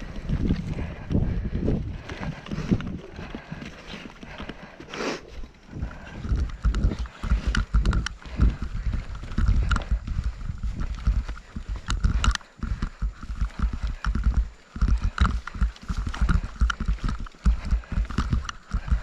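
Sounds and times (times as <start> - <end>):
wind buffeting microphone: 0.0 - 4.8, 5.4 - 19.0.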